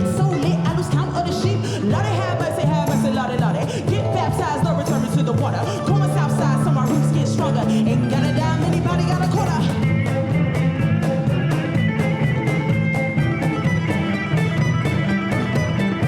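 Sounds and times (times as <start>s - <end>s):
up-tempo string-band music: 0.0s - 16.0s.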